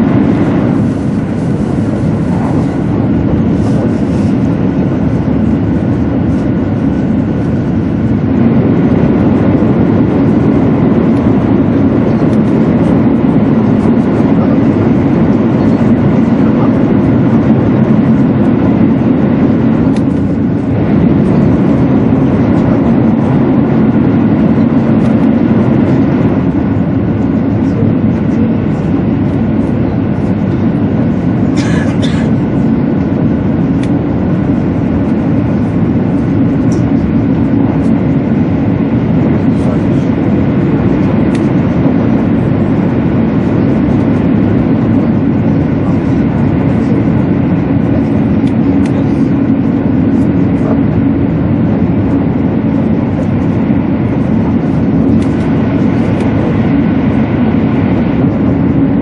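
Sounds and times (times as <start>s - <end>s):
train rumbling in a tunnel: 0.0s - 59.0s.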